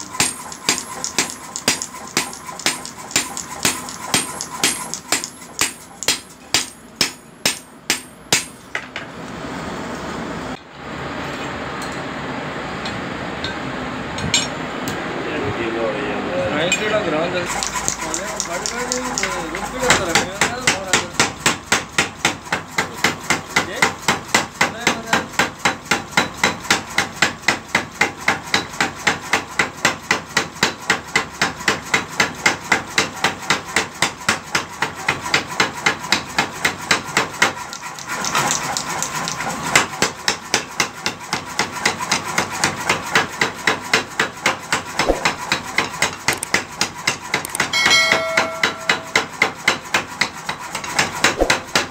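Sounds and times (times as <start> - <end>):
power hammer striking hot steel: 0.0 - 8.8, 17.5 - 51.9.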